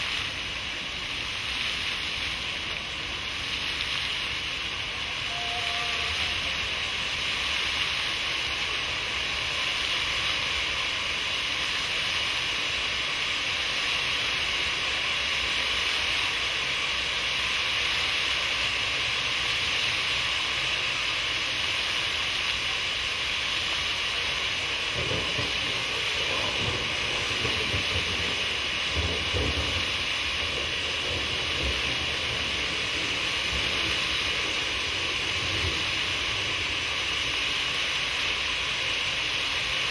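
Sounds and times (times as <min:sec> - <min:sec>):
fountain spray hissing: 0:00.0 - 0:39.9.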